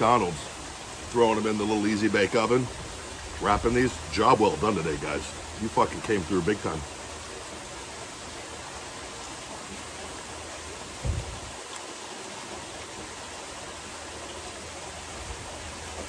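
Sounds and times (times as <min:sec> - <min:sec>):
waterfall splashing into pool: 0:00.0 - 0:16.0.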